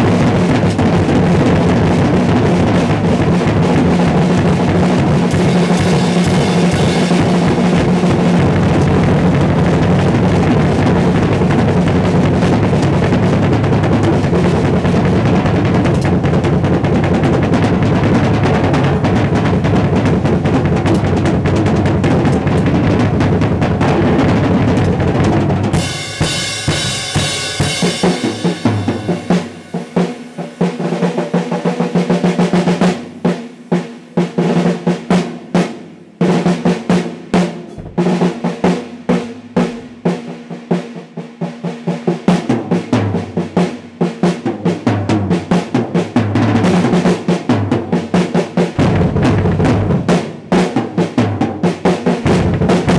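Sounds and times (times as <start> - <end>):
drum kit solo: 0.0 - 52.9.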